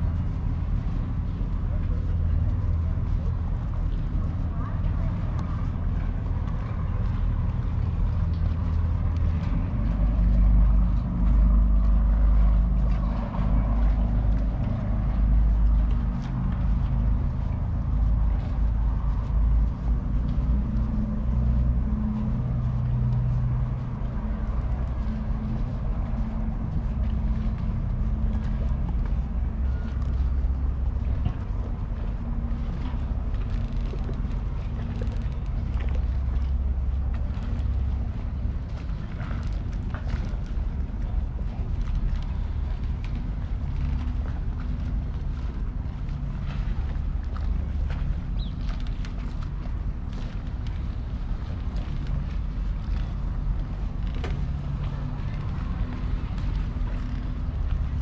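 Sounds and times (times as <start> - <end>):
engine rumbling: 0.0 - 58.0.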